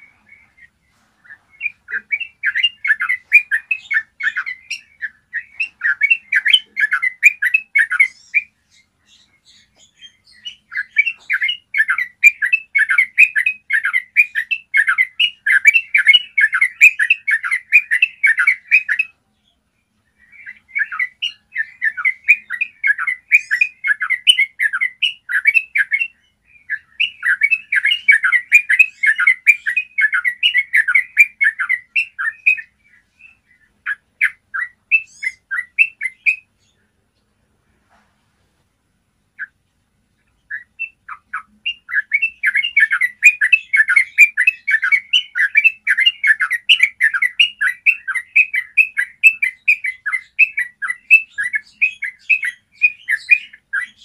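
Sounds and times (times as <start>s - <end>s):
bird singing chattering notes: 0.0s - 36.9s, 40.2s - 54.0s.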